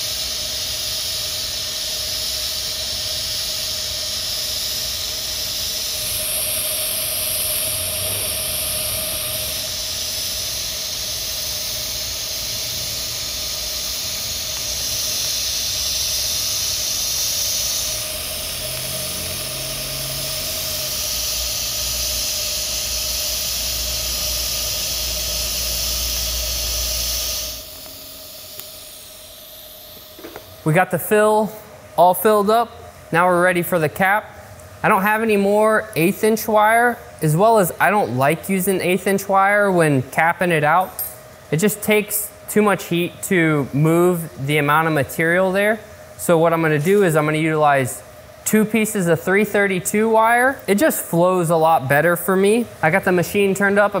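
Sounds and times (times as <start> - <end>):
welding arc hiss and hum: 0.0 - 54.0.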